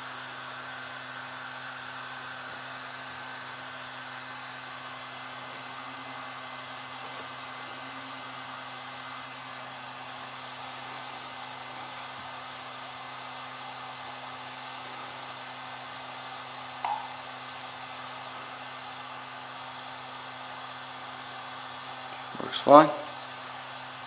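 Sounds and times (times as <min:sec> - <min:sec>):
heat gun blowing with hum: 0:00.0 - 0:24.0.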